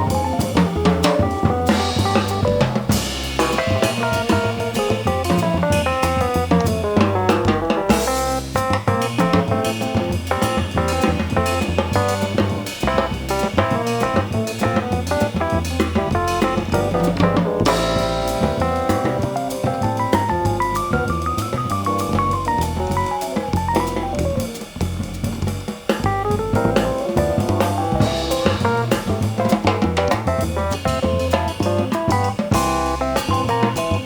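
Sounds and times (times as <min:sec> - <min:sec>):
jazz band playing: 0:00.0 - 0:34.0.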